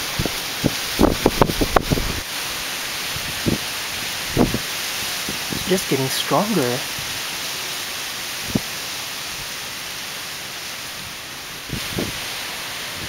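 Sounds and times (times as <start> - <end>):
gusty wind through trees: 0.0 - 13.0.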